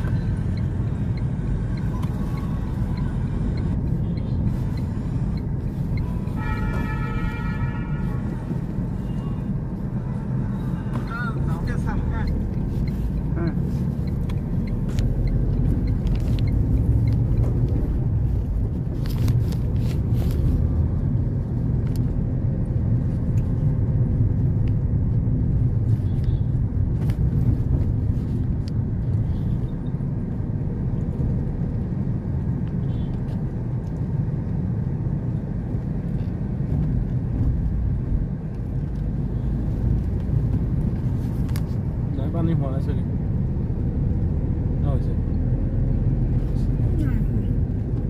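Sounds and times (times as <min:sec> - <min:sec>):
vehicle engine rumble: 0:00.0 - 0:48.0.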